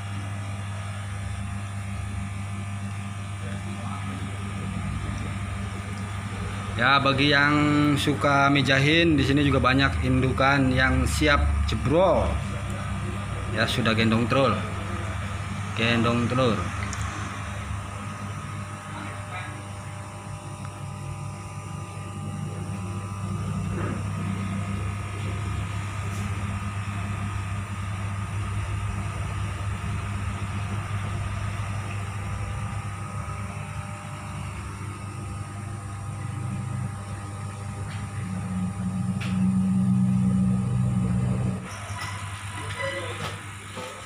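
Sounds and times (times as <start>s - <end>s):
low mechanical hum with rumble: 0.0s - 44.0s.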